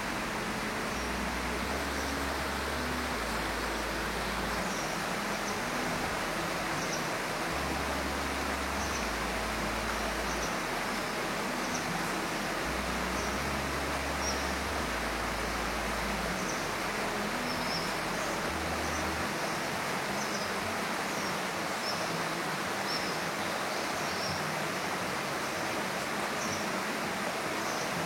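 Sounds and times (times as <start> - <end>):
steady rushing noise: 0.0 - 23.6.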